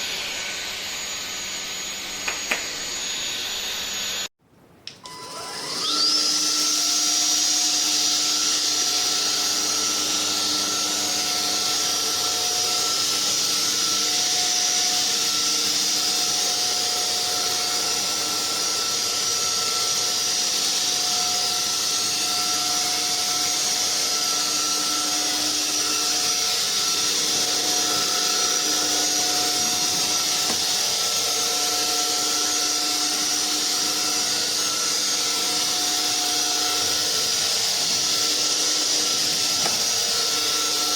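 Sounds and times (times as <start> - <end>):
stick vacuum cleaner running: 0.0 - 4.3, 4.9 - 40.9.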